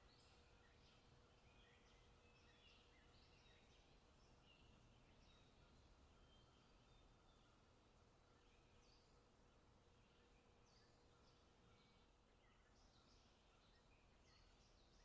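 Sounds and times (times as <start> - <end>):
bird chirps: 0.0 - 9.3, 9.9 - 15.0
low background hiss: 0.0 - 15.0.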